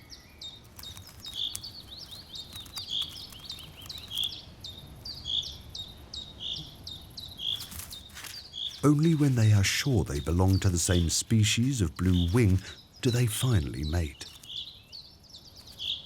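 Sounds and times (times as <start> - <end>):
birds chirping: 0.0 - 16.0
faint outdoor background: 0.0 - 16.0.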